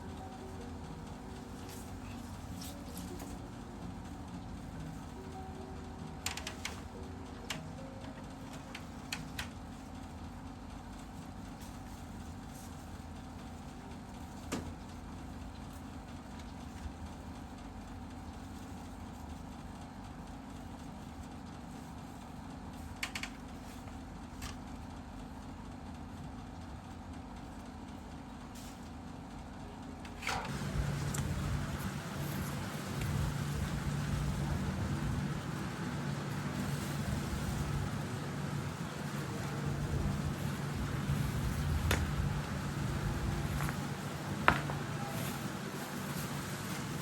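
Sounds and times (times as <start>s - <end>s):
low background rumble: 0.0s - 47.0s
low steady hum: 0.0s - 47.0s.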